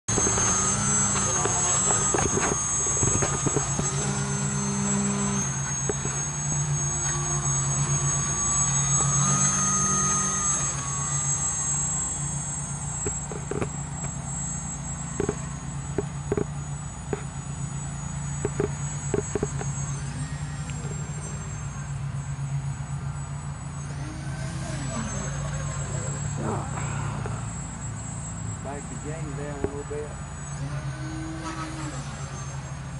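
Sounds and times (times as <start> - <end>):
electric motor propeller whine: 0.0 - 32.9.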